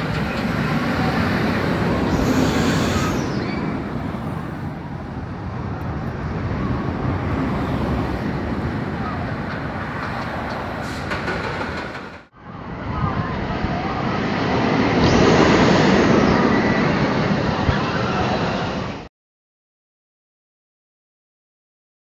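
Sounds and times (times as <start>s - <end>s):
roller coaster rumbling on track: 0.0s - 19.1s.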